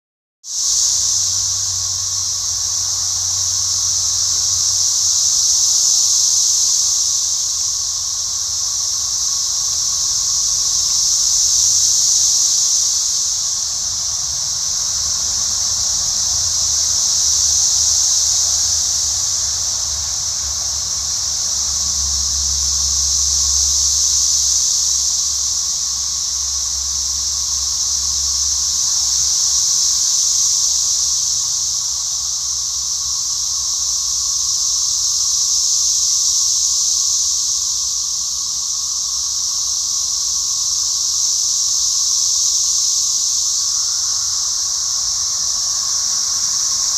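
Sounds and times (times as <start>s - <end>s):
high-pitched hissing drone: 0.5s - 46.9s.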